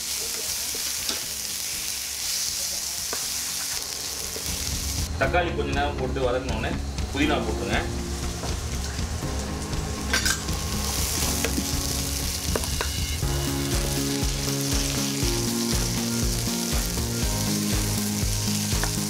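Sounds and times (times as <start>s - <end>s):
vegetables sizzling in pan: 0.0s - 5.1s, 8.0s - 19.0s.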